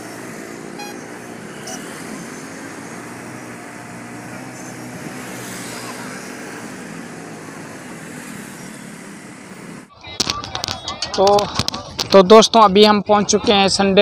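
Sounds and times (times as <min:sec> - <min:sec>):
town traffic: 0:00.0 - 0:14.0.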